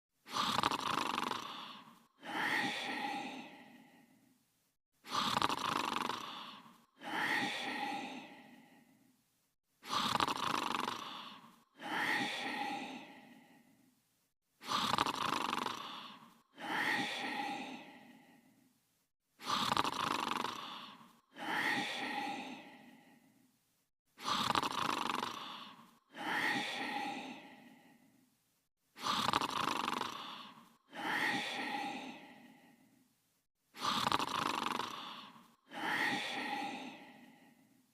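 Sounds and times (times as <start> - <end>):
cartoon snoring: 0.2 - 4.3, 5.0 - 9.1, 9.8 - 13.8, 14.6 - 18.6, 19.4 - 23.4, 24.2 - 28.2, 29.0 - 33.0, 33.7 - 37.8.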